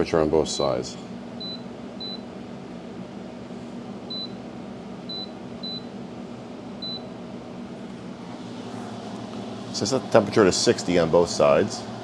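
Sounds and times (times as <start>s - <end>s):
fridge fans humming: 0.0s - 12.0s.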